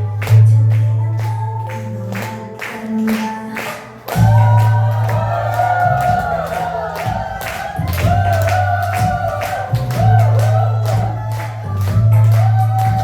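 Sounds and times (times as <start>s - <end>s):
upbeat music with bass line: 0.0s - 13.0s.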